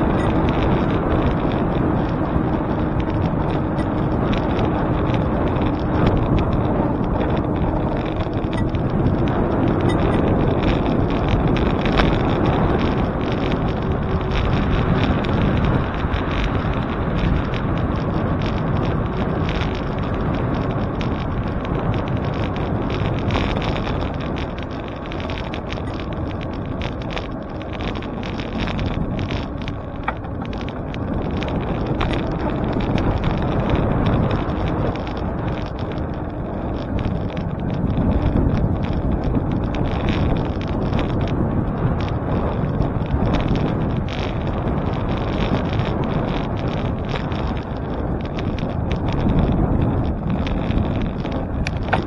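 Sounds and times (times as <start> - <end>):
road and traffic noise: 0.0 - 52.0
wind noise on microphone: 0.0 - 52.0.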